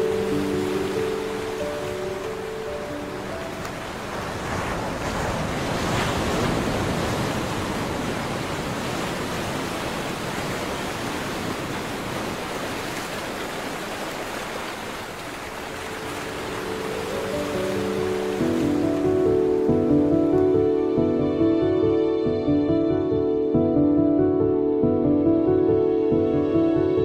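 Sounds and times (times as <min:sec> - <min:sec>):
sea surf washing in: 0:00.0 - 0:22.2.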